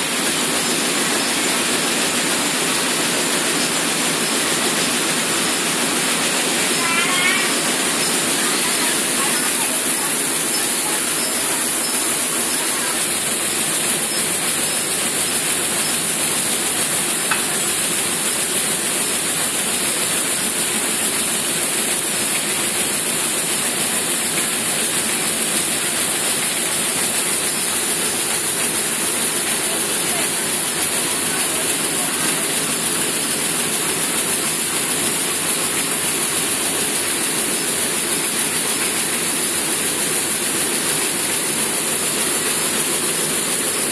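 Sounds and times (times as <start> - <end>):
grain pouring down a chute: 0.0 - 43.9
machinery loud hiss: 0.0 - 43.9.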